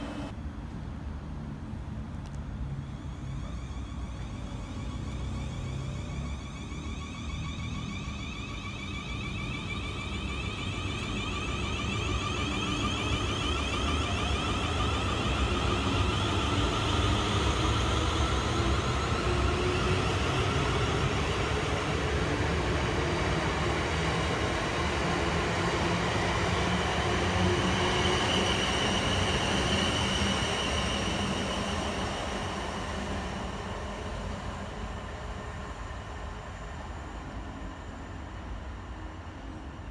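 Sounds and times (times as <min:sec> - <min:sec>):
train wheels rumbling on rails: 0:02.3 - 0:39.9.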